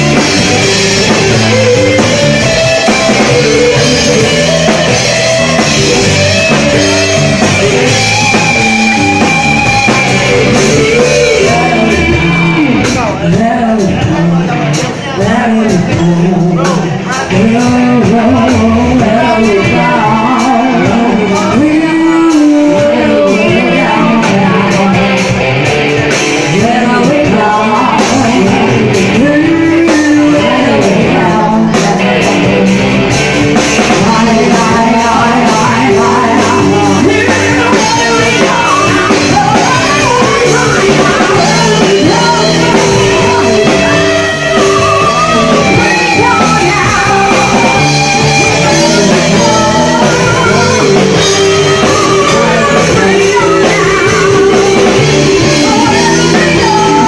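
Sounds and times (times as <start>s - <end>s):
woman singing: 0.0s - 25.4s, 26.4s - 32.6s, 33.6s - 57.0s
electric guitar: 0.0s - 57.0s.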